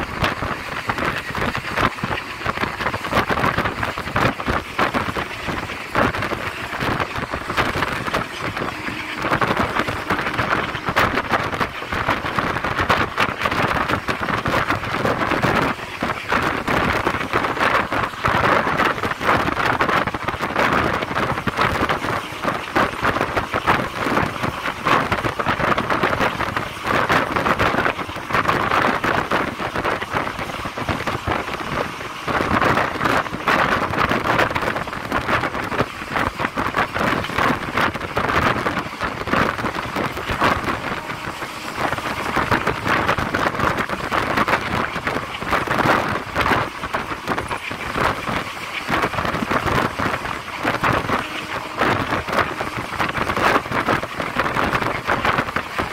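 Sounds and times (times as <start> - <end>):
train running noise with rattle: 0.0 - 55.9.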